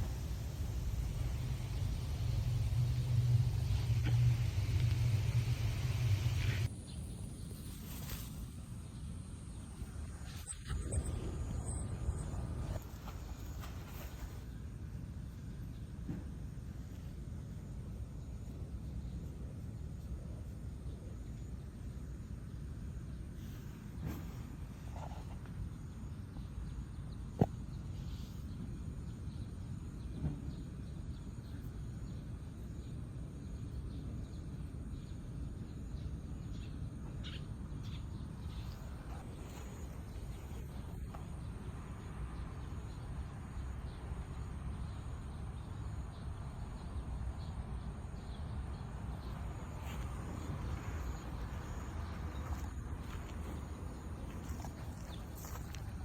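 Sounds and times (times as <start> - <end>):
low outdoor background noise: 0.0 - 56.0.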